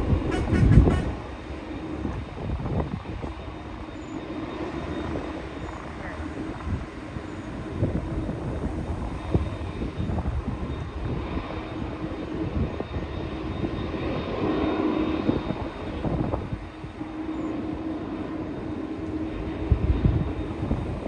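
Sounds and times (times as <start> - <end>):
jet engines running: 0.0 - 21.0
wind buffeting microphone: 0.0 - 21.0.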